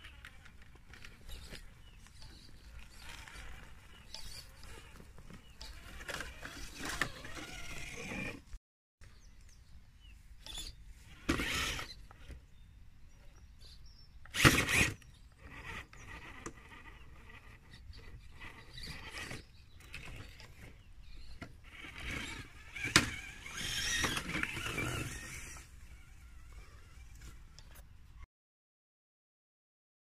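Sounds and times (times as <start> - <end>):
electric motor whining: 0.0 - 8.5, 10.5 - 12.5, 14.3 - 27.8.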